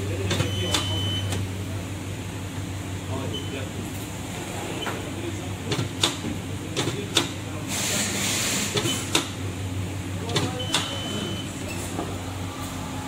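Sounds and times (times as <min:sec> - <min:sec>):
low machine hum: 0:00.0 - 0:07.7, 0:08.9 - 0:13.0.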